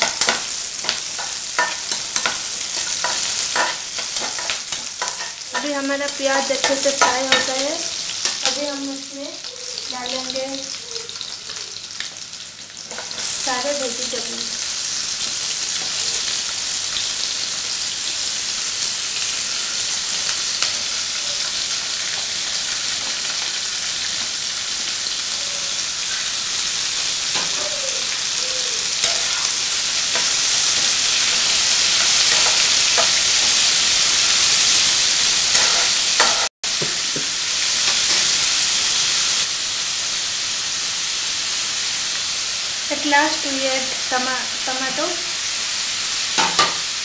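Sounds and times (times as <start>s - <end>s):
vegetables sizzling in hot oil: 0.0s - 47.0s.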